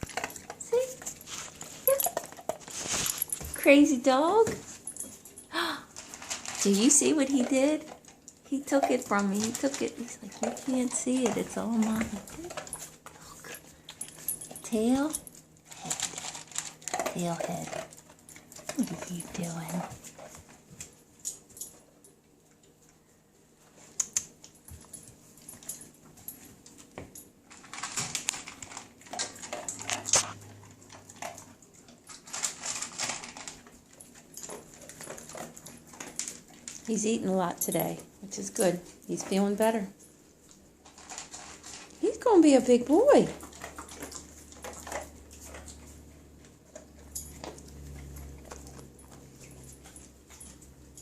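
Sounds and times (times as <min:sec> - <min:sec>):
dog chewing and crunching: 0:00.0 - 0:51.0
faint low hum: 0:00.0 - 0:51.0.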